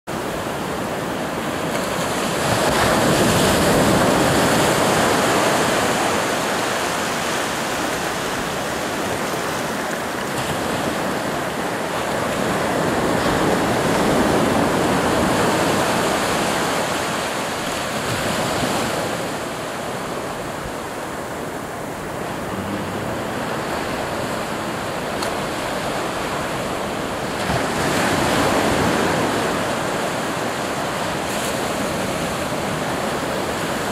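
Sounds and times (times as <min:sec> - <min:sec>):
ocean surf breaking on beach: 0:00.1 - 0:33.9.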